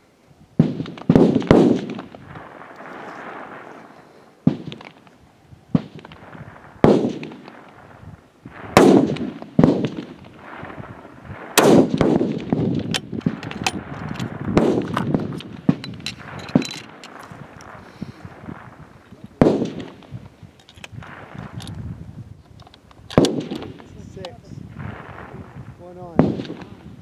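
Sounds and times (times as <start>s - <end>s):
rifle shots echoing: 0.6s - 21.8s, 23.1s - 27.0s.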